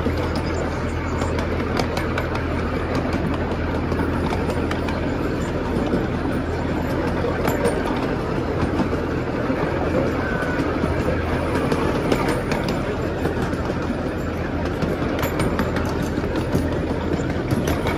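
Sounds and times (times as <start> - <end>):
train hum and rumble: 0.0 - 17.9.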